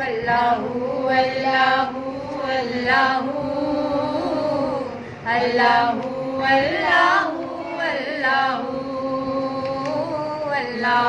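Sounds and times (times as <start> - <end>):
woman singing devotional song: 0.0 - 11.0.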